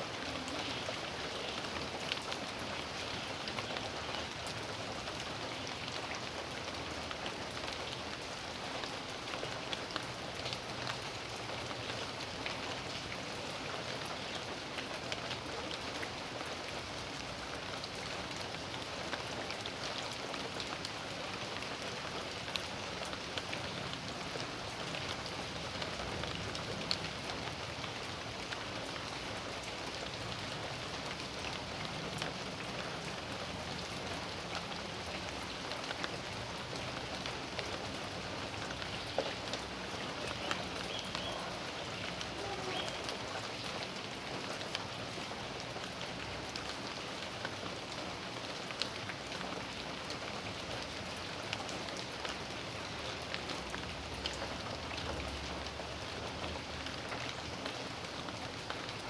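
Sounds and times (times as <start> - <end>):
raindrops ticking on surfaces: 0.0 - 59.0
steady rain hiss: 0.0 - 59.0.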